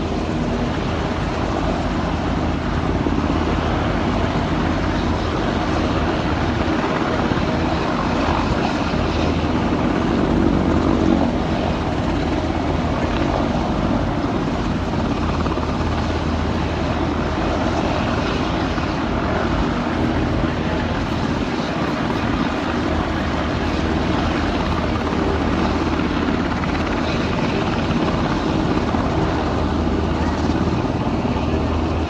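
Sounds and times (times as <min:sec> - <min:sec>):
aircraft engine drone: 0:00.0 - 0:32.0.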